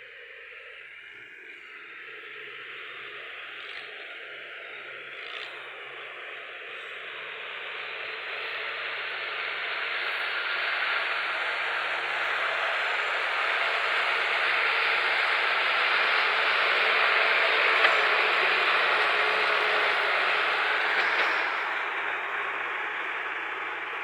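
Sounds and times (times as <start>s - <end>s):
tractor diesel engine under load: 1.6s - 24.0s.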